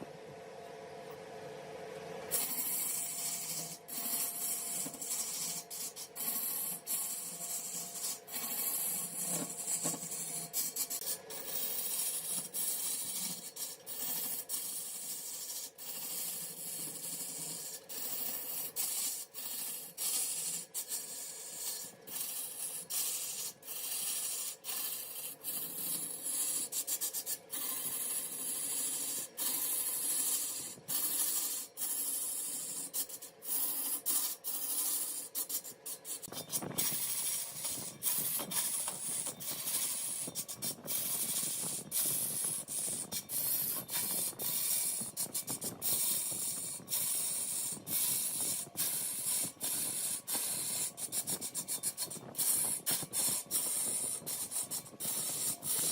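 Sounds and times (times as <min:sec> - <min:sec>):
lathe tool rasping on wood: 0:02.3 - 0:55.9.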